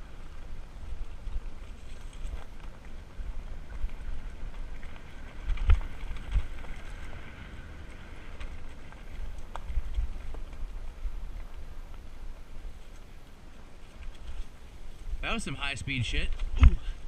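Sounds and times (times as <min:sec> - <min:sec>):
bike tyre rumble: 0:00.0 - 0:17.0
wind buffeting microphone: 0:00.0 - 0:17.0.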